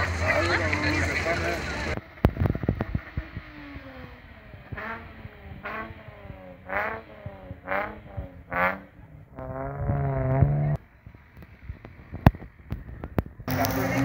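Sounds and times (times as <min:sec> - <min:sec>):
car engine revving in blips: 0:00.0 - 0:10.8, 0:11.4 - 0:14.0.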